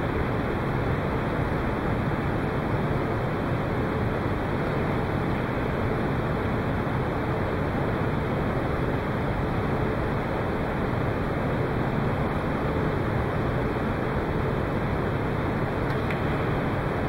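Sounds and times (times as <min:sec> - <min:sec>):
large hall background hiss: 0:00.0 - 0:17.0.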